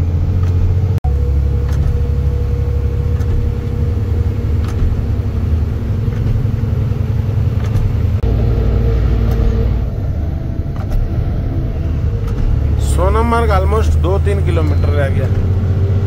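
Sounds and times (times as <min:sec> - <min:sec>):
truck diesel engine drone: 0:00.0 - 0:16.0.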